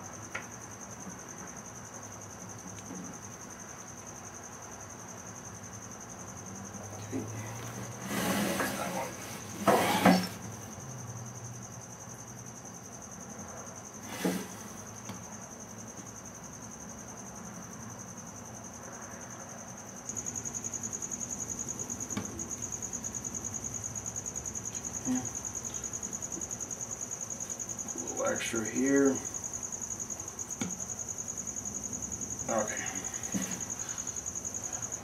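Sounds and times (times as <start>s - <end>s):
insect trilling: 0.0s - 17.7s, 18.3s - 35.0s.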